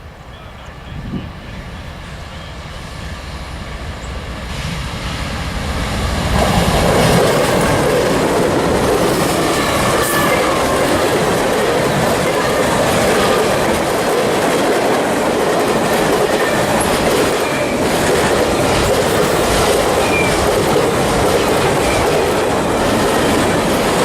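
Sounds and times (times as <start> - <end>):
locomotive engines rumbling: 0.0 - 24.0
train wheel and rail noise: 0.0 - 24.0.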